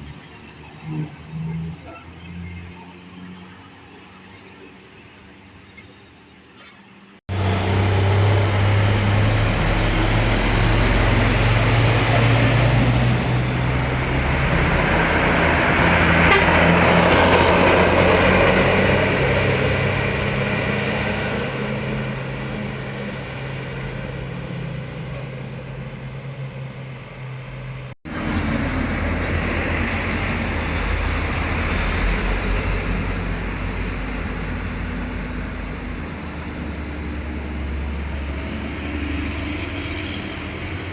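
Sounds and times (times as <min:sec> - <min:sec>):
diesel bus engine drone: 0:00.0 - 0:40.9
tyre and road noise: 0:00.0 - 0:40.9.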